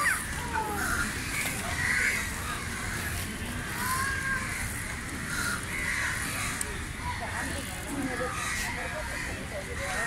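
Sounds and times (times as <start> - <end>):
low outdoor background noise: 0.0 - 10.0.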